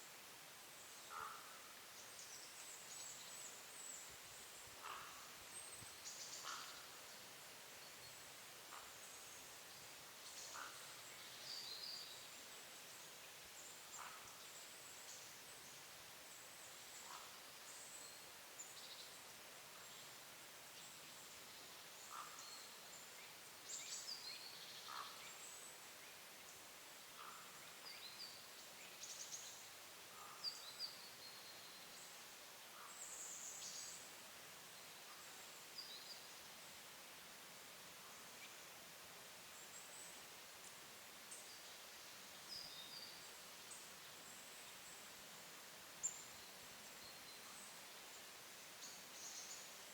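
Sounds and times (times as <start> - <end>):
songbirds calling: 0.8 - 36.7, 39.5 - 49.9.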